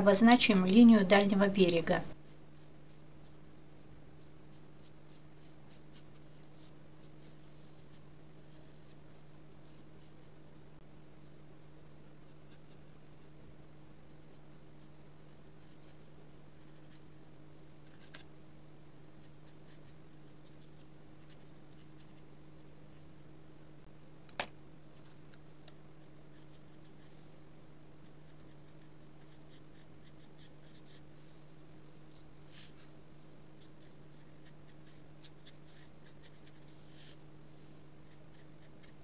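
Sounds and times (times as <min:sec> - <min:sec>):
scratchy brush strokes on paper: 0:02.1 - 0:23.9, 0:24.8 - 0:39.0.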